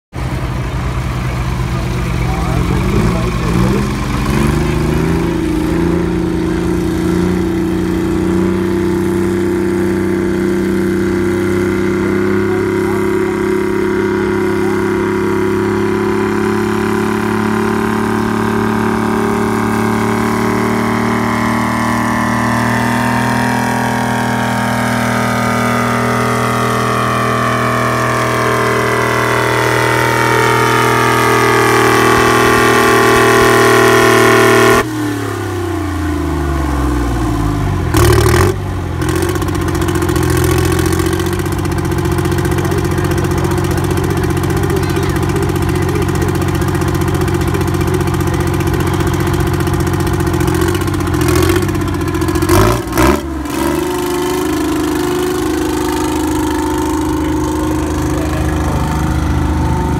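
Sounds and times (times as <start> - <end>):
tractor engine under load: 0.1 - 34.8, 35.8 - 59.9.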